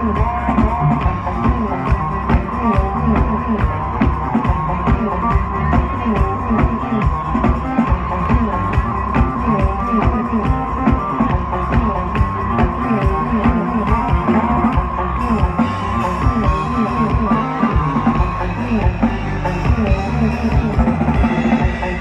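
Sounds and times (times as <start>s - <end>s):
driving drum beat: 0.0s - 22.0s
live electronic music: 0.0s - 22.0s.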